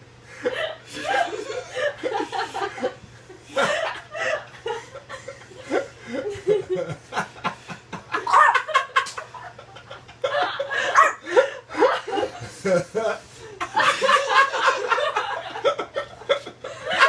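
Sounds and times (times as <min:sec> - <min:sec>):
people laughing: 0:00.3 - 0:17.0.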